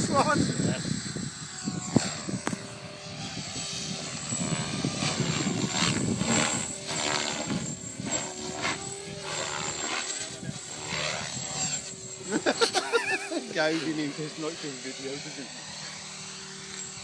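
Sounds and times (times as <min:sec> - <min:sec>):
high motor whine: 0:00.0 - 0:17.0
rotor blades whooshing: 0:00.0 - 0:17.0.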